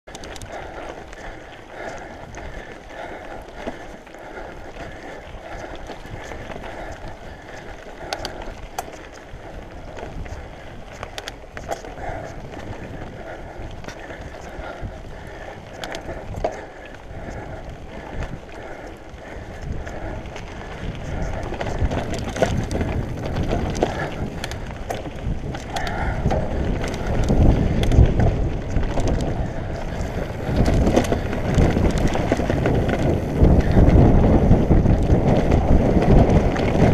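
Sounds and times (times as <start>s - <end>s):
bike rattling and knocking: 0.1s - 36.9s
bike tyres on dirt and stones: 0.1s - 36.9s
wind on microphone: 4.3s - 36.9s.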